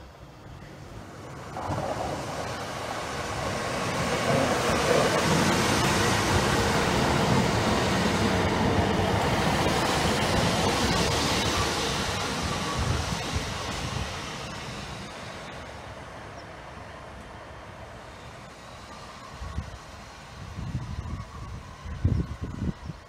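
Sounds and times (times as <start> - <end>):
diesel train rumbling past: 0.0 - 23.0.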